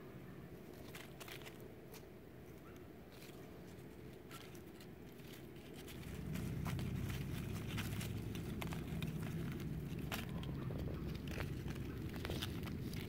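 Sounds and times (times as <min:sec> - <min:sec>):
low steady rumble: 0:00.0 - 0:13.0
dry leaves crackling: 0:00.5 - 0:13.0.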